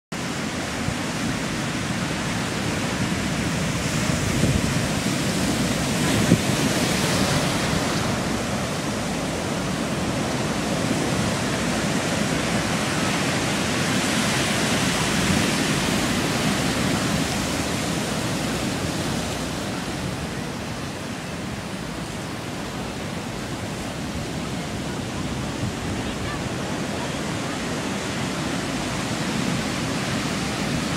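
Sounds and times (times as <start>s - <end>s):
ocean surf breaking on rocks: 0.2s - 30.9s.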